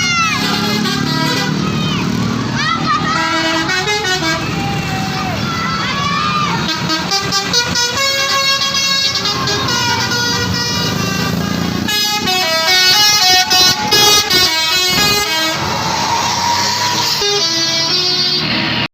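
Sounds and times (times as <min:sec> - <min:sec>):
air horns playing a melody: 0:00.1 - 0:01.8, 0:03.0 - 0:04.8, 0:06.6 - 0:18.8.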